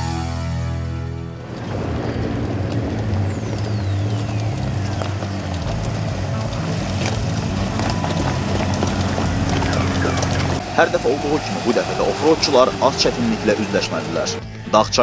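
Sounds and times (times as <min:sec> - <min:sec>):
off-road vehicle engine running: 0:00.0 - 0:15.0
vehicle knocks and rattles: 0:01.4 - 0:14.4.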